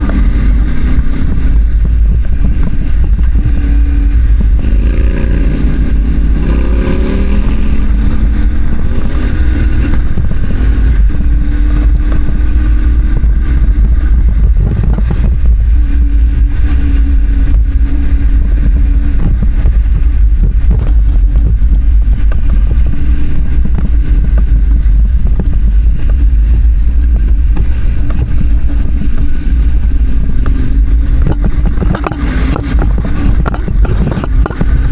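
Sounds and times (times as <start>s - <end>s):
motorcycle engine accelerating: 0.0s - 34.9s
road rumble: 0.0s - 34.9s
wind on microphone: 0.0s - 34.9s.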